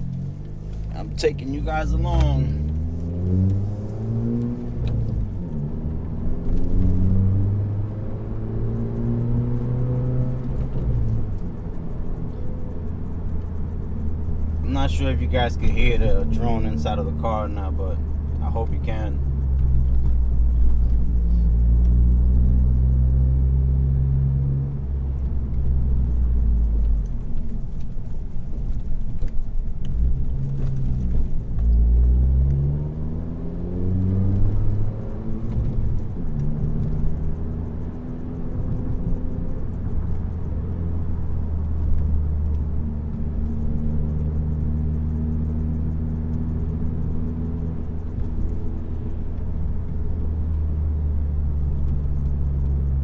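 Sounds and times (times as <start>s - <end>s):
car exhaust drone: 0.0s - 53.0s.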